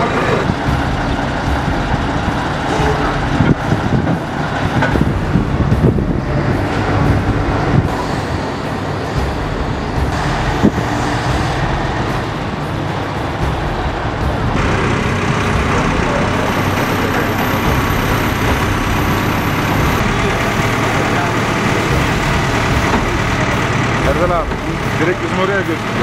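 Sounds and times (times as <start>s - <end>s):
truck engine low rumble: 0.0s - 26.0s.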